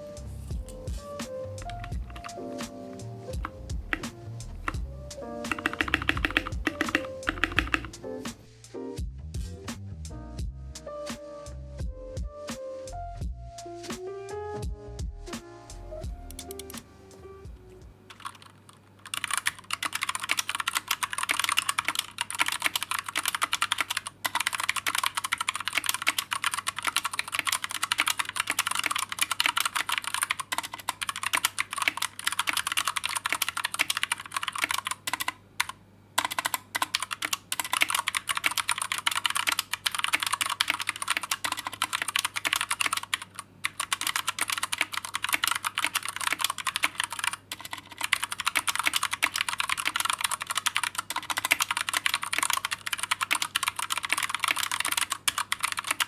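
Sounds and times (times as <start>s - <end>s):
mechanical keyboard typing: 1.6s - 8.0s, 16.3s - 16.8s, 18.1s - 56.0s.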